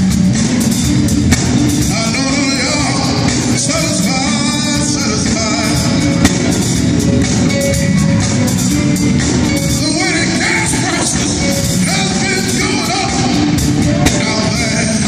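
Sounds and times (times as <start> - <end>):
band playing: 0.0 - 15.0
vocal group singing: 1.8 - 8.8, 9.5 - 15.0.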